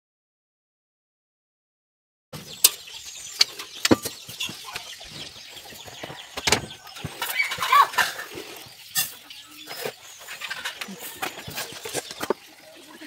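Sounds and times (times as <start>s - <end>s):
chicken clucking: 2.4s - 13.0s.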